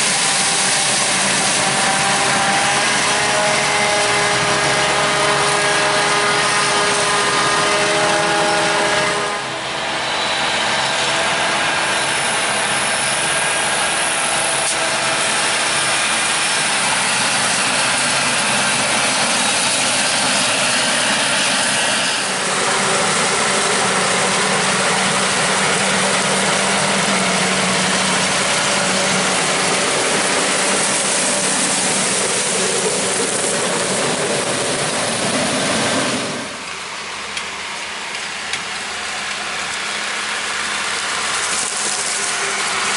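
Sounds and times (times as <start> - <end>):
dense rushing hiss: 0.0 - 42.9
forage harvester engine: 0.0 - 42.9.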